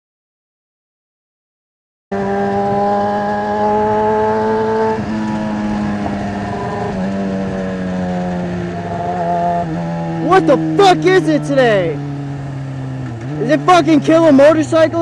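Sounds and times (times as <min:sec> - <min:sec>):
motorcycle engine running: 0:02.1 - 0:15.0.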